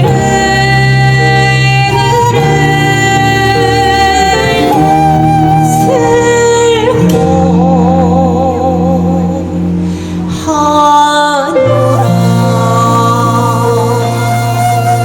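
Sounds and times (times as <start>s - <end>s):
live band playing slow song: 0.0s - 15.0s
woman singing long notes: 0.0s - 15.0s.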